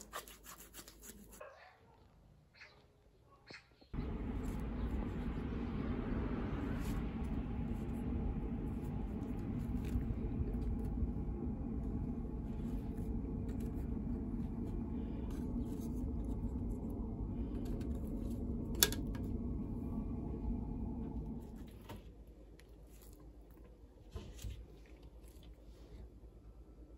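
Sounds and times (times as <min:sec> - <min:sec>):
steady low hum: 0:03.9 - 0:26.9.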